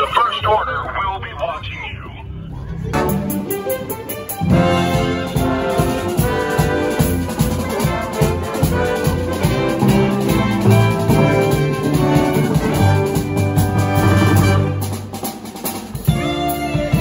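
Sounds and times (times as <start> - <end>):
music with steady drum beat: 3.0 - 17.0.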